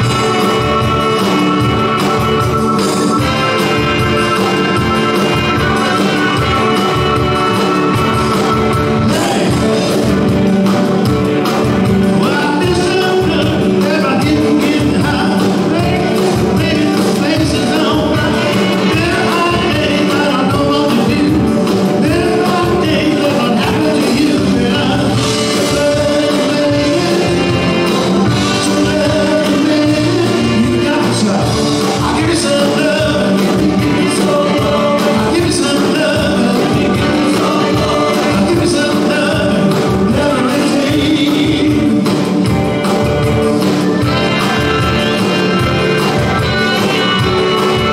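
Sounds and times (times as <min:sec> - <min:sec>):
person singing: 0:00.0 - 0:10.8, 0:11.4 - 0:47.9
live band playing: 0:00.0 - 0:47.9.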